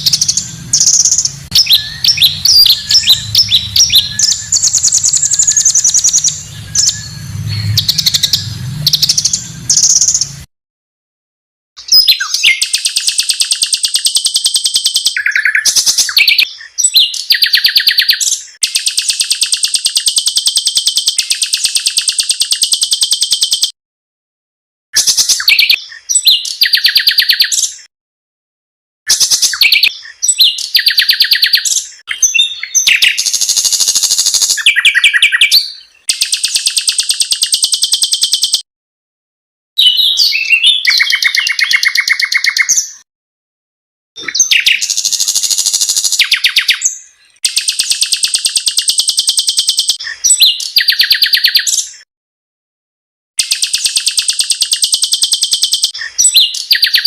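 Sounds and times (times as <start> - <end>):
small songbirds trilling: 0.0 - 10.4, 11.8 - 23.7, 29.1 - 38.6, 39.8 - 43.0, 44.2 - 52.0, 53.4 - 57.0.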